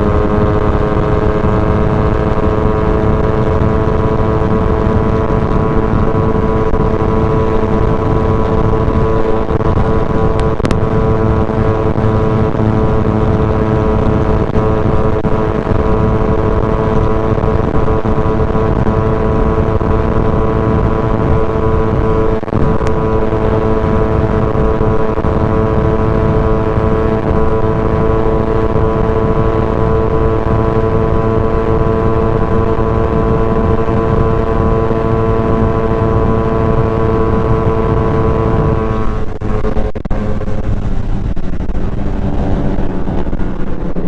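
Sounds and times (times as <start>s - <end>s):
motorcycle engine at high revs: 0.0s - 44.0s
wind rumble on microphone: 0.0s - 44.0s.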